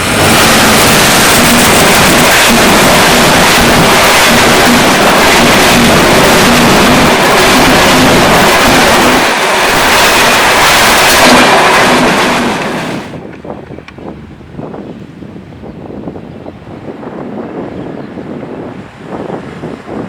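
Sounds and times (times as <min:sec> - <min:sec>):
passenger train passing: 0:00.0 - 0:20.0.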